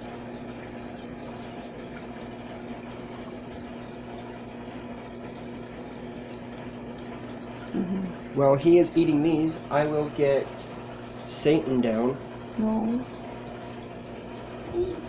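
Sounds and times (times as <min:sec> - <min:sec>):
water pump running: 0:00.0 - 0:15.0.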